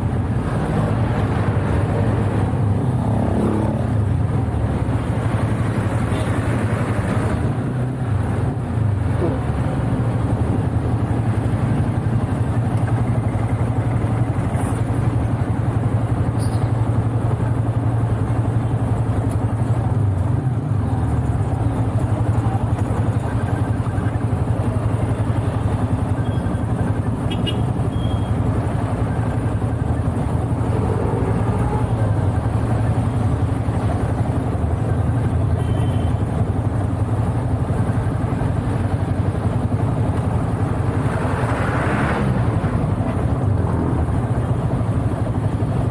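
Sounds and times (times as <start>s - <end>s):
motorcycle engine hum: 0.0s - 45.9s
wind and road noise: 0.0s - 45.9s.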